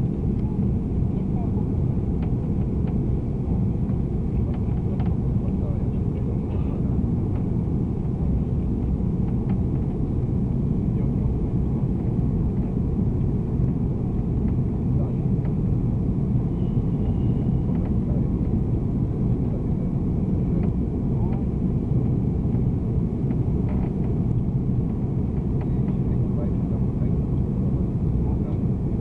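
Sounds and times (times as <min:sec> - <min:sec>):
airplane cabin rumble in flight: 0:00.0 - 0:29.0.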